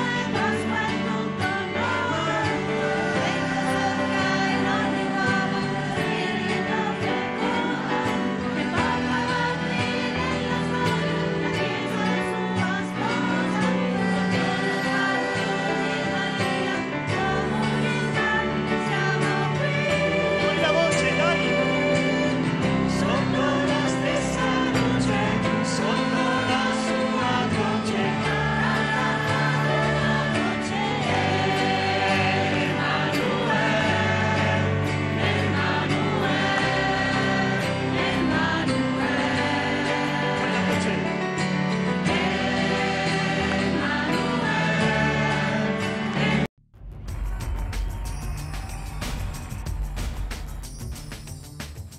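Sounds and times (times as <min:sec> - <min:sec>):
singing voices: 0:00.0 - 0:46.5.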